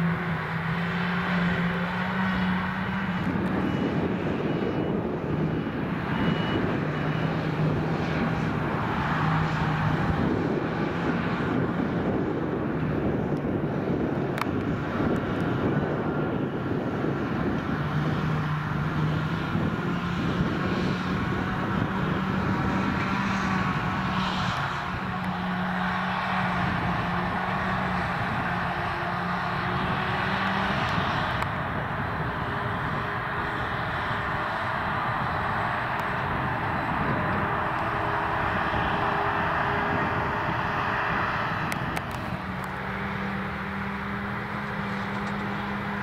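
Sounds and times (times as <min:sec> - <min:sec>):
diesel engines droning: 0:00.0 - 0:46.0.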